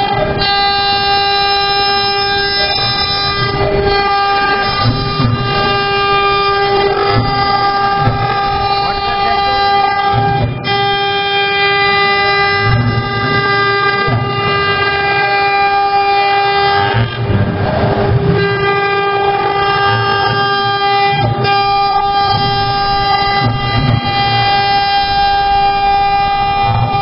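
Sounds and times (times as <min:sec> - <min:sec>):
low cutting rumble: 0:00.0 - 0:27.0
router spindle whining: 0:00.0 - 0:27.0.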